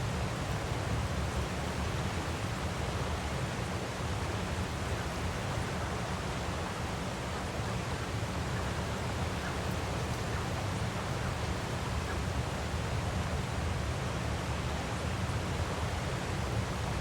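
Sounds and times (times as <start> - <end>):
waterfall rushing with low rumble: 0.0 - 17.0.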